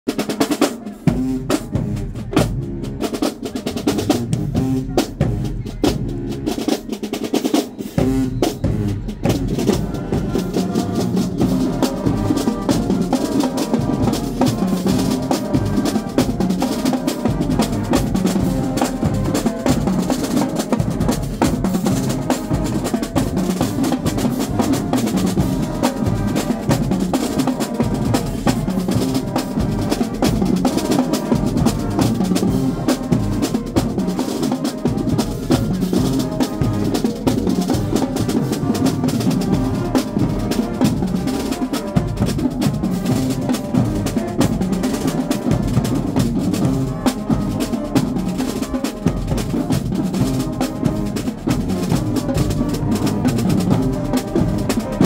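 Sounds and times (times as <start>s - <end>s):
snare and tenor drums: 0.0s - 55.0s
brass section playing: 0.1s - 55.0s.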